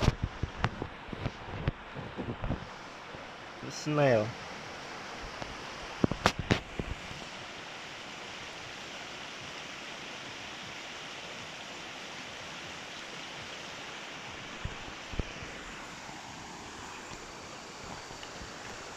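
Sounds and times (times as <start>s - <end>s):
river rushing: 0.0s - 18.9s.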